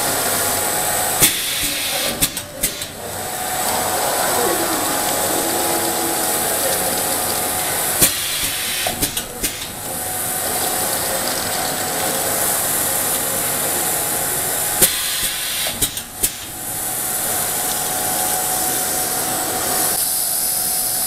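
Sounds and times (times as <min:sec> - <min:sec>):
machine running with steady hiss: 0:00.0 - 0:21.0.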